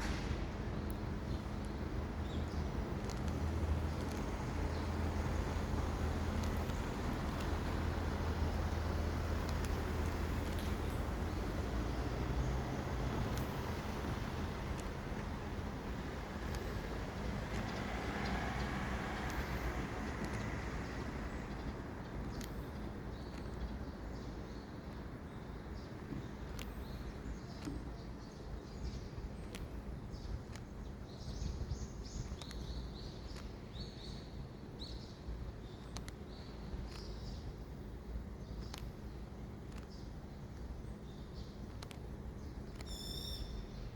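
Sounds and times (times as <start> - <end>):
low traffic rumble: 0.0 - 43.9
small birds chirping: 0.8 - 43.9.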